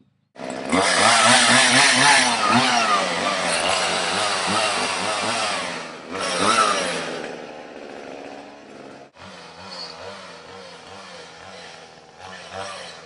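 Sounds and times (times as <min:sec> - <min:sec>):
chainsaw running: 0:00.4 - 0:13.0.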